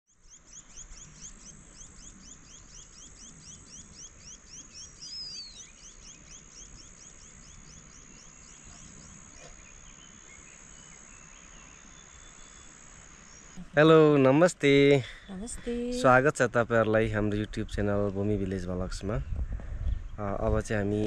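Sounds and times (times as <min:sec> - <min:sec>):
high insect trill: 0:00.2 - 0:17.0.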